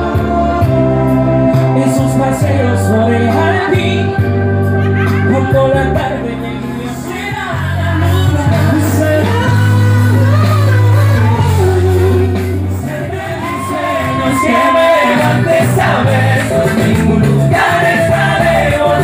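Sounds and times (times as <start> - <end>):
live band music: 0.0 - 19.0
man singing into a microphone: 0.0 - 19.0
steady bass line: 0.0 - 19.0.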